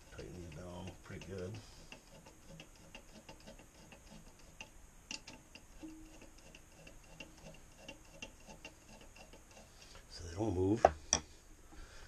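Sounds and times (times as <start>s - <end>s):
small handling noises: 0.0s - 11.9s.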